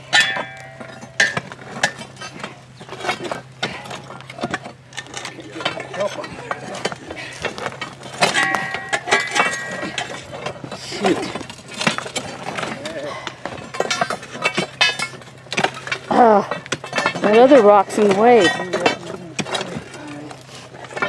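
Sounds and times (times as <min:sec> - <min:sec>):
pry bars scraping rock: 0:00.0 - 0:21.0
ringing metallic clanks: 0:00.0 - 0:21.0
stones knocking and grinding: 0:00.0 - 0:21.0.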